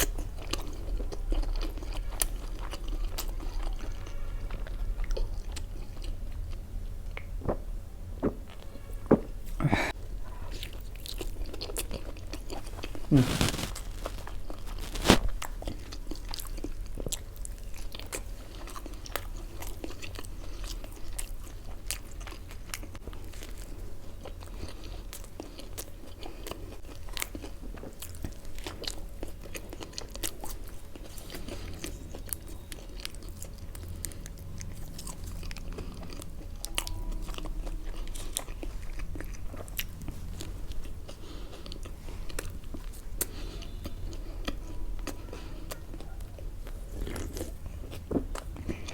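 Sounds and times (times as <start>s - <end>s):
chewing with crisp crunches: 0.0s - 48.9s.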